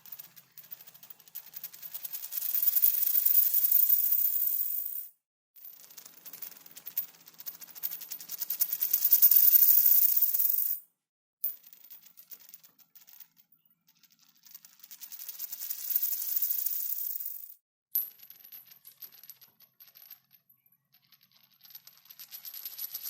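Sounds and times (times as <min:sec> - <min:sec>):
coin spinning on hard surface: 0:00.2 - 0:05.1, 0:05.9 - 0:08.0, 0:08.6 - 0:10.8, 0:11.4 - 0:23.0.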